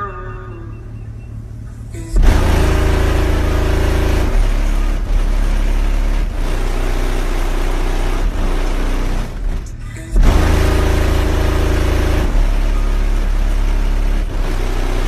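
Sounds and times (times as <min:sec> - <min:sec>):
bass-heavy music through subwoofers: 0:00.0 - 0:15.0.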